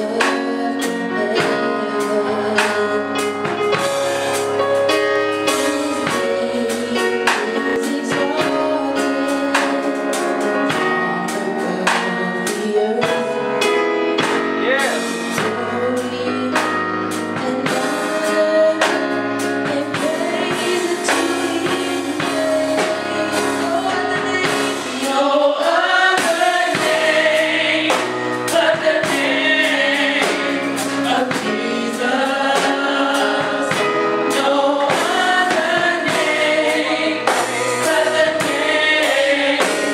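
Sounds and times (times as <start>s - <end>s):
band with drums: 0.0s - 39.9s
choir singing gospel: 0.0s - 39.9s.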